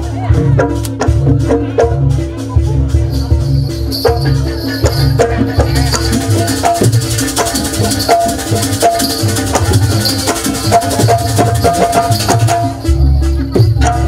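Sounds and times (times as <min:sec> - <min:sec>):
drums playing fast rhythm: 0:00.0 - 0:14.0
struck metal percussion: 0:00.0 - 0:14.0.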